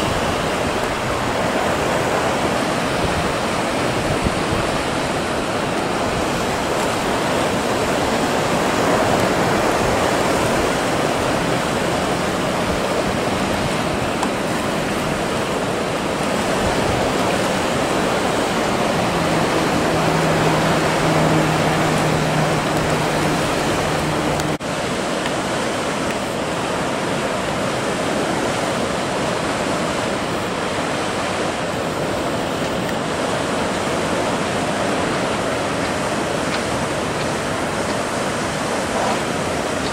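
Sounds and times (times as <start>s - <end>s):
motorboat engine hum: 0.0s - 39.9s
sea waves breaking: 0.0s - 39.9s.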